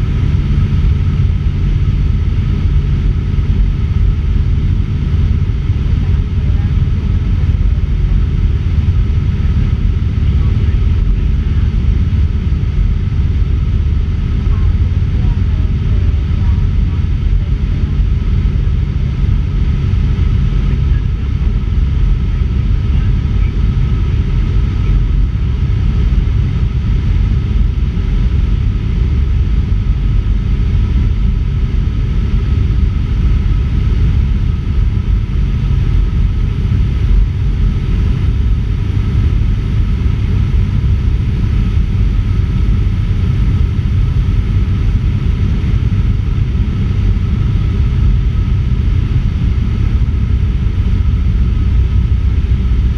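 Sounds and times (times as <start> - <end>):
faint steady whine: 0.0 - 52.9
propeller plane engine droning: 0.0 - 52.9.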